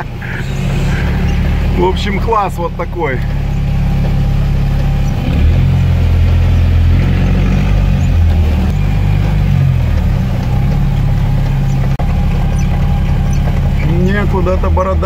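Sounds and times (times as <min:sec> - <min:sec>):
engine pulling under load: 0:00.0 - 0:15.0.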